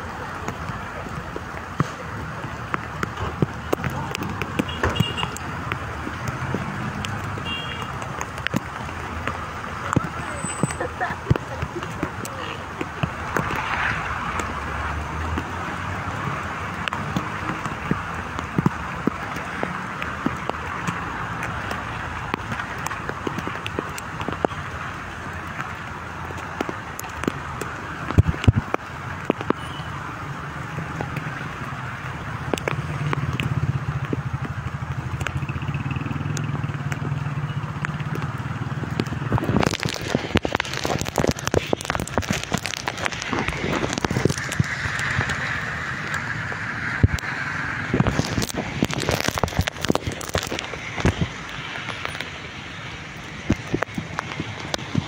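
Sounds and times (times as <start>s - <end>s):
rain on car windshield and roof: 0.0s - 55.0s.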